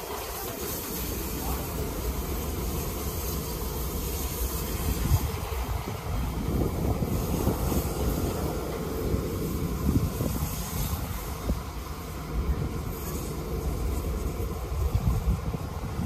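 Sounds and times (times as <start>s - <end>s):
low engine rumble: 0.0s - 16.0s
steam locomotive moving off: 0.0s - 16.0s
train wheels on rails: 0.0s - 16.0s.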